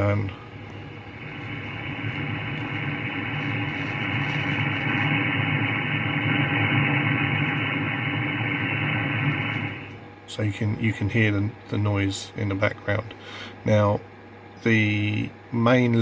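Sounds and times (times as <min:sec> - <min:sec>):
low hum: 0:00.0 - 0:13.2
radio static buzzing hiss: 0:00.0 - 0:16.0.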